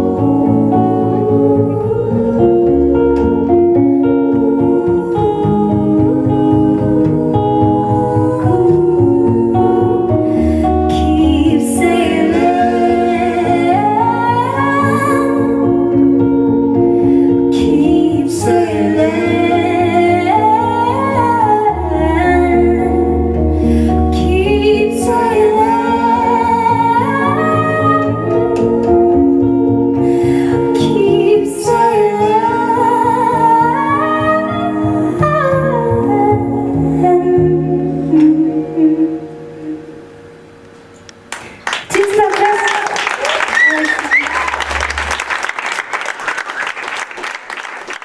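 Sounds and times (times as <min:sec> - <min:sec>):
woman singing: 0:00.0 - 0:40.1, 0:41.9 - 0:44.5
plucked double bass: 0:00.0 - 0:40.2
electric guitar: 0:00.0 - 0:48.0.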